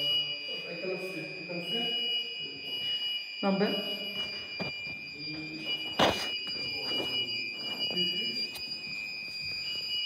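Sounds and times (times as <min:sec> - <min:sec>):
fire alarm high-pitched tone: 0:00.0 - 0:10.0.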